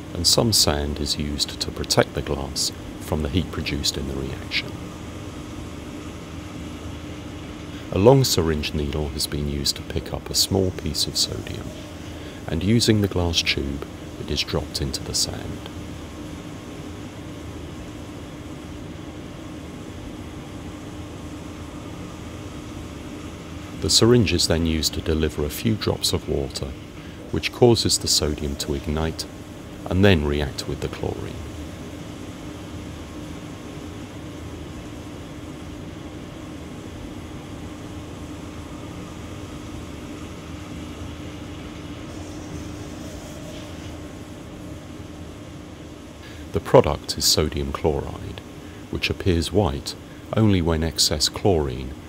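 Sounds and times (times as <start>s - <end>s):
background hum and hiss: 0.0s - 52.0s
faint constant tone: 0.0s - 52.0s.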